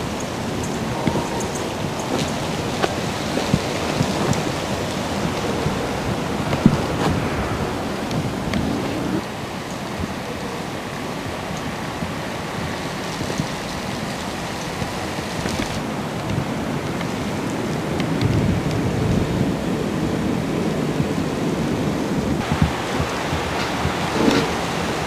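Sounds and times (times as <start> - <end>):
low rumbling wind gusts: 0.0 - 25.0
rushing outdoor noise: 0.0 - 25.0.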